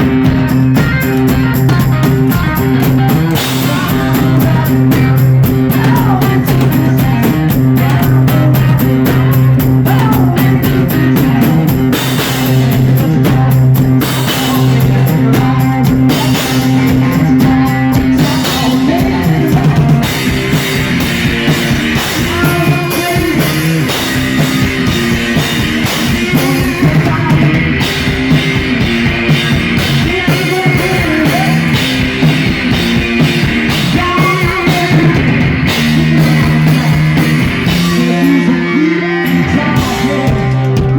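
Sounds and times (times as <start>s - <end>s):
distorted electric guitar: 0.0s - 40.9s
drum kit playing: 0.0s - 40.9s.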